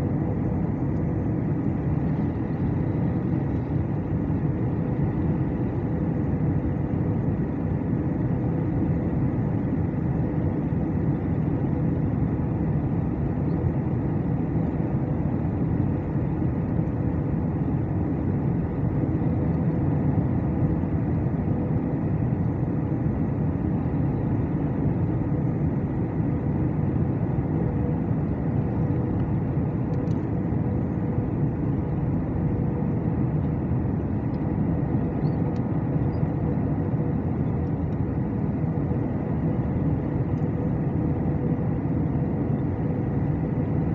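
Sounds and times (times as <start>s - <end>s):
airplane engine and rushing air: 0.0s - 43.9s
steady hum: 0.0s - 43.9s.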